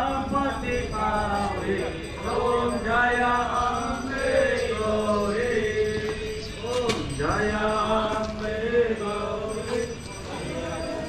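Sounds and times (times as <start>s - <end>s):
man chanting a hymn: 0.0s - 11.0s.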